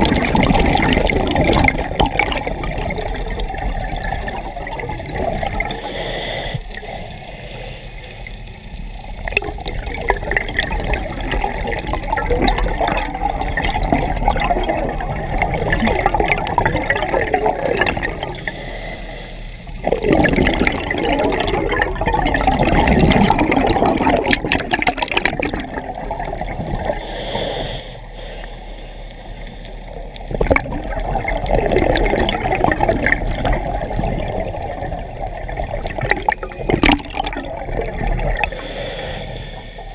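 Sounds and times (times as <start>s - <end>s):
gurgling underwater air bubbles: 0.0s - 5.9s, 9.1s - 18.5s, 19.7s - 27.2s, 29.9s - 39.9s.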